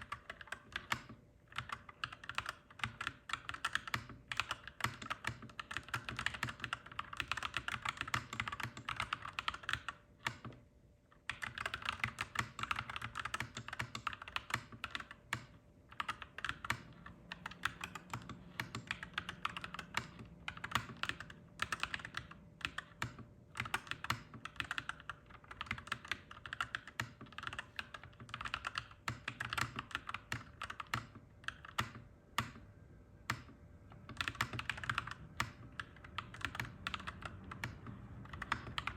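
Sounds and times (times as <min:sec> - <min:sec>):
mechanical keyboard typing: 0:00.0 - 0:10.6, 0:11.2 - 0:38.9.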